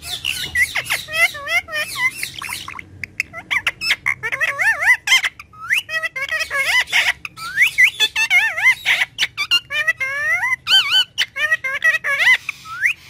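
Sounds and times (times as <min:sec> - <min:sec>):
parakeet whistles and squawks: 0:00.0 - 0:13.0.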